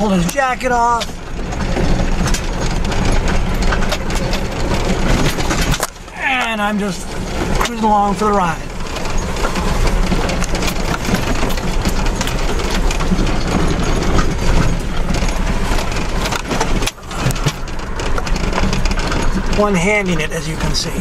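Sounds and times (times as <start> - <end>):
engine running under load: 0.0 - 21.0
vehicle body knocking and rattling: 0.0 - 21.0.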